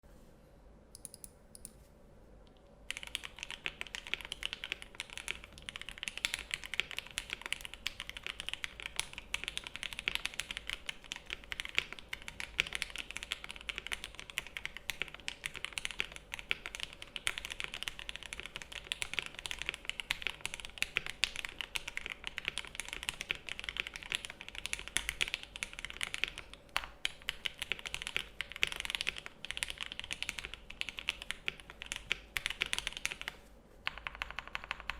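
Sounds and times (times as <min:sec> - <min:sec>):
typing on mechanical keyboard: 0:02.9 - 0:34.9.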